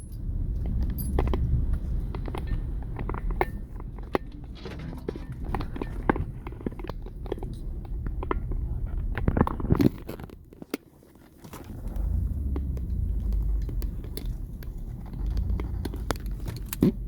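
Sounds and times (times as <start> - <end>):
vehicle rolling over debris: 0.1 - 17.0
debris crunching and clicking: 0.6 - 17.0.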